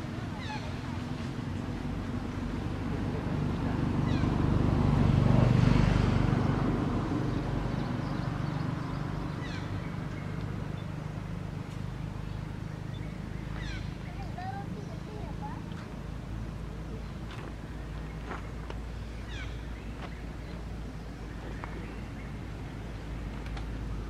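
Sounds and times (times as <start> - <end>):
low rumbling background: 0.0 - 24.0.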